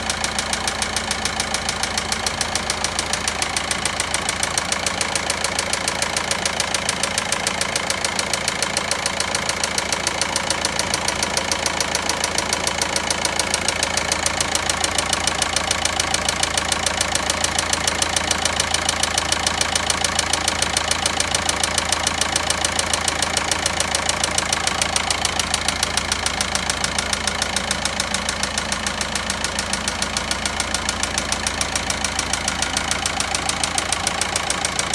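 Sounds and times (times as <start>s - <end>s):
diesel engine idling with knocking: 0.0s - 34.9s.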